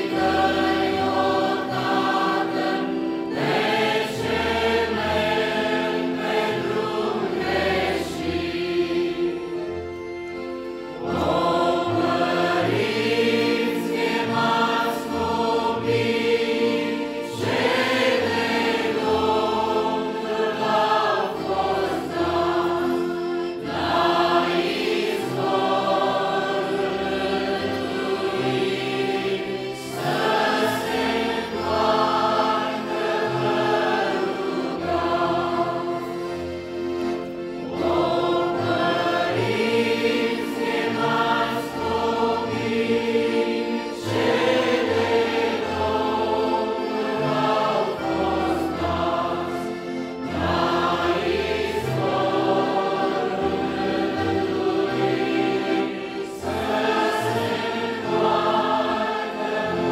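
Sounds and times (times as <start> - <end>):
accordions: 0.0 - 59.9
congregation singing a hymn: 0.0 - 59.9.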